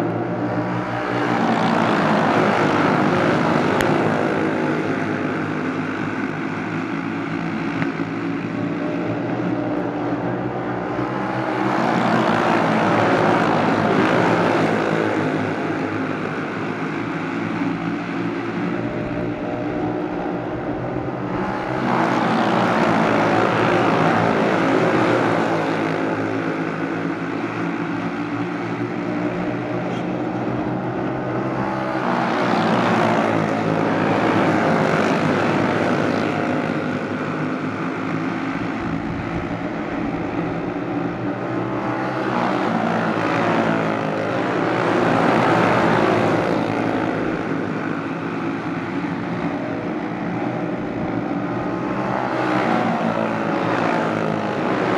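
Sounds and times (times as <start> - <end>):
racing karts engines buzzing: 0.0 - 54.9.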